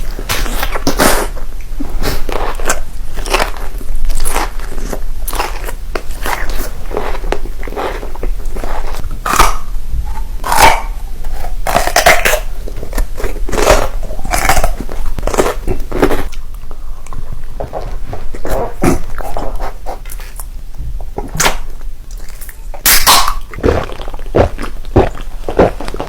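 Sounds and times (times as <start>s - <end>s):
person biting and chewing food: 0.0s - 26.0s.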